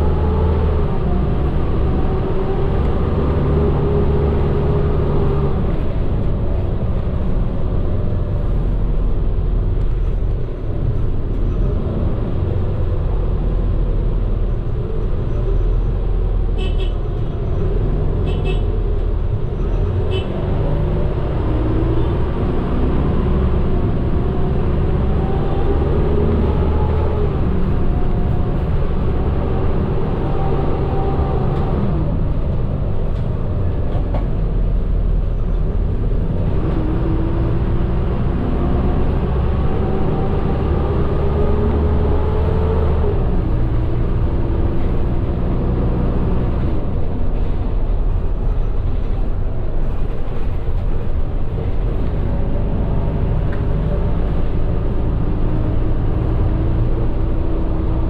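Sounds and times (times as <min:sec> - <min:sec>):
bus engine running: 0:00.0 - 0:58.0
road noise: 0:00.0 - 0:58.0.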